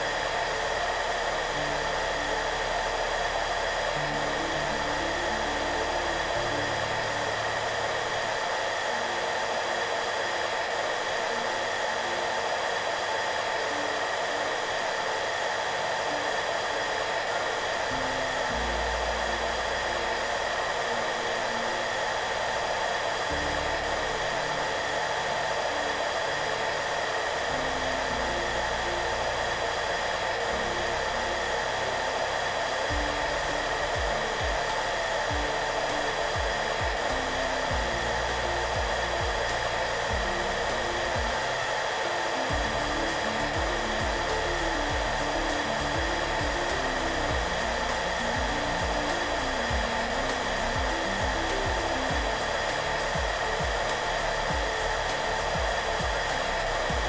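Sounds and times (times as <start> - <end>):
hair dryer running: 0.0 - 57.0
soft background music: 0.0 - 57.0.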